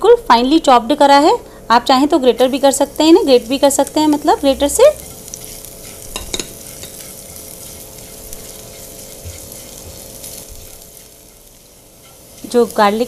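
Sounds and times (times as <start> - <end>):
garlic sizzling in hot oil: 0.6 - 13.0.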